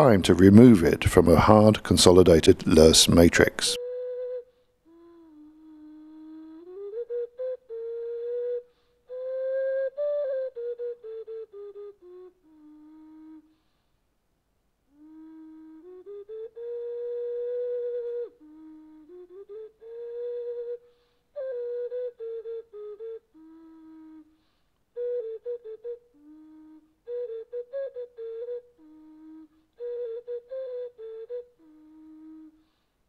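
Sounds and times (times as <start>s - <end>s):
flute-like slow melody: 3.4s - 13.8s, 14.9s - 33.0s.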